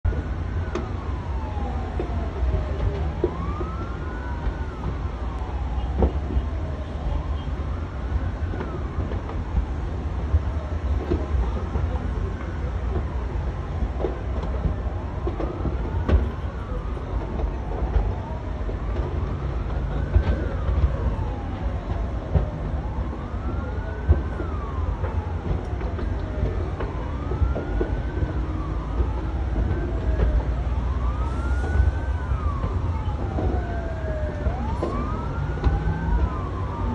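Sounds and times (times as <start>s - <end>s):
emergency sirens wailing: 0.1s - 36.9s.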